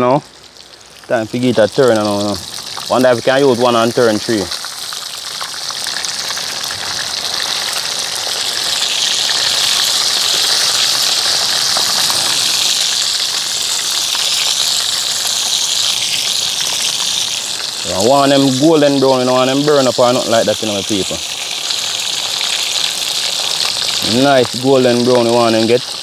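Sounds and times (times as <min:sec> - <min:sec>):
fish sizzling in hot oil: 0:00.2 - 0:26.0.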